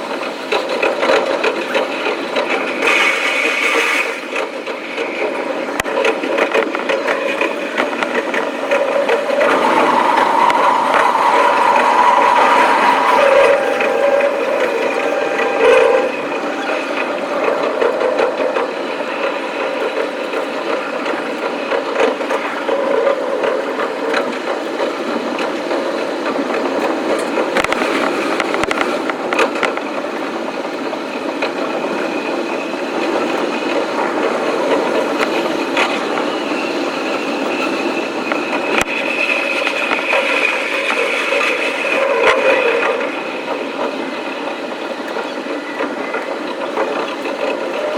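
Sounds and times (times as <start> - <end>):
electric train rattling clatter: 0.0 - 47.9.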